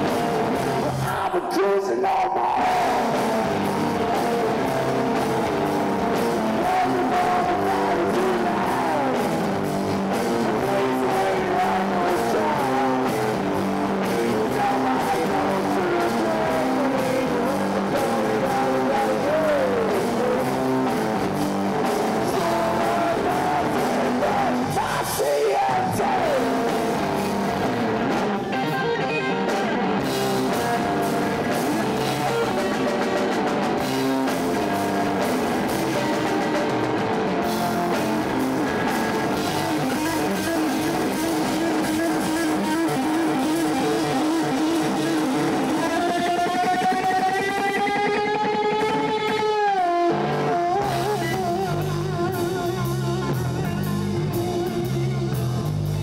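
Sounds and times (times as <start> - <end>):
bass guitar: 0.0 - 56.0
distorted electric guitar: 0.0 - 56.0
drum kit: 0.0 - 56.0
sliding guitar lead line: 0.0 - 56.0.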